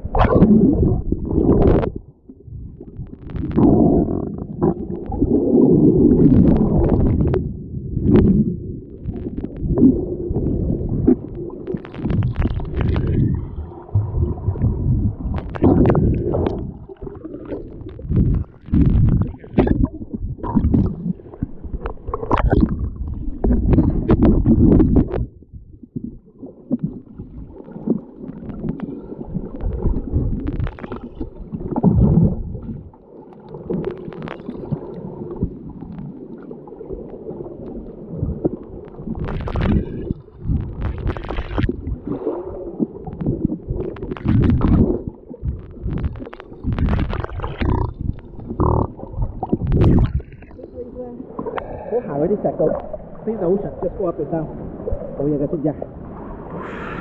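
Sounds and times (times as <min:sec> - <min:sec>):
muffled water sloshing and gurgling: 0:00.0 - 0:57.0.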